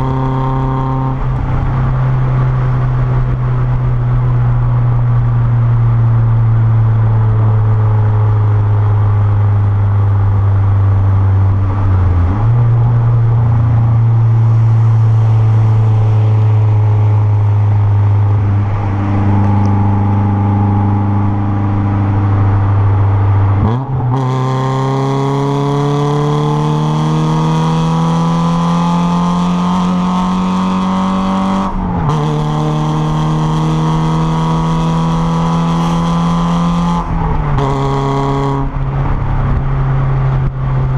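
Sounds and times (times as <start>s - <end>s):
car exhaust accelerating: 0.0s - 40.9s.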